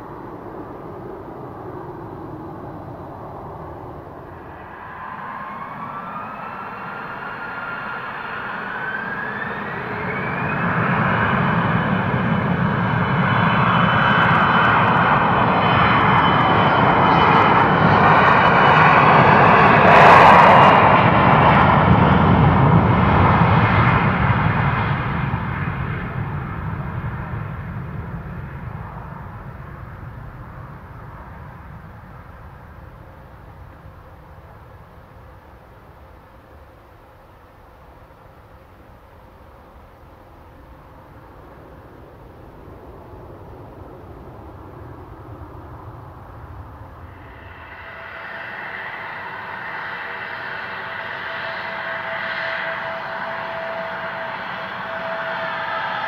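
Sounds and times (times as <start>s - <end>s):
jet engines at takeoff: 0.0s - 56.0s
rising engine whine: 0.0s - 56.0s.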